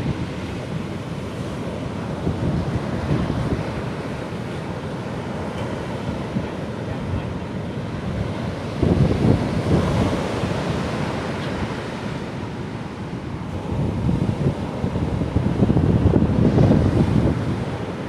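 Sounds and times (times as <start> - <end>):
ocean surf on beach: 0.0 - 18.0
wind rumble on microphone: 0.0 - 18.0.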